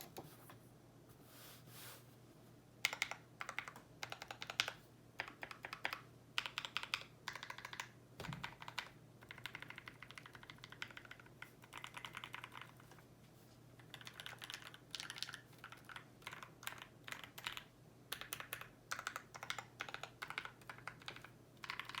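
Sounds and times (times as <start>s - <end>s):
mechanical keyboard typing: 2.8s - 13.0s, 13.8s - 22.0s.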